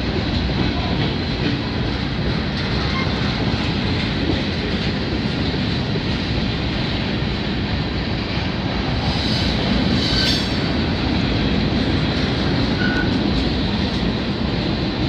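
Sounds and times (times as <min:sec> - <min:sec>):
steel wheels running on rails: 0:00.0 - 0:15.0.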